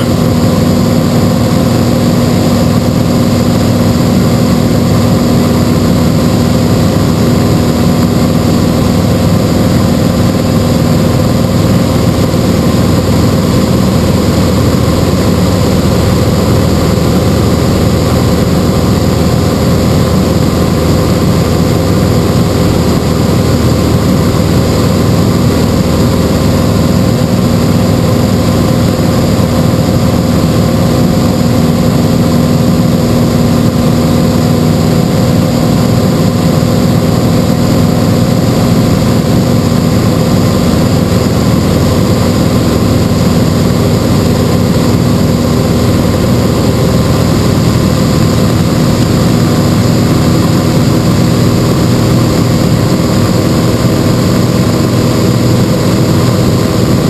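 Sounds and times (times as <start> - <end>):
light airplane engine humming: 0.0 - 57.0.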